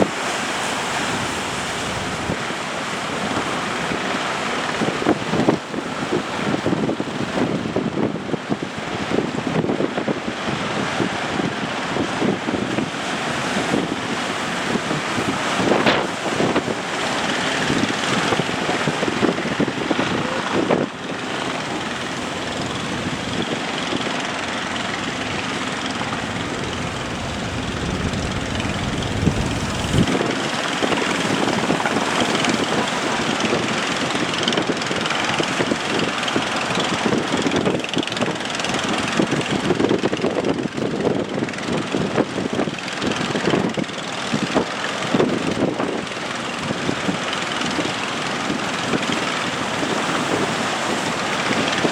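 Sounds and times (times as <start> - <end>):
boat engine running: 0.0 - 5.6, 11.1 - 51.9
wind buffeting microphone: 0.0 - 51.9.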